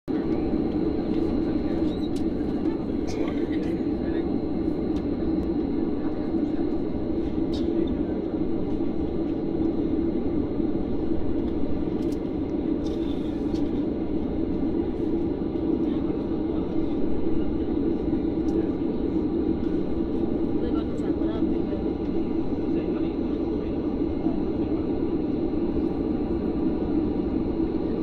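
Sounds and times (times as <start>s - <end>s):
airliner cabin drone: 0.1s - 28.0s.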